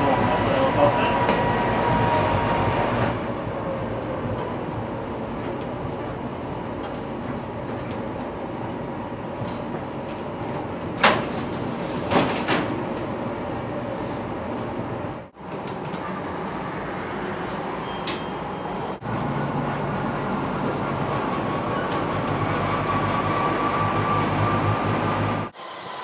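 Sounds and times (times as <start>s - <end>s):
tram rumbling on rails: 0.0s - 26.0s.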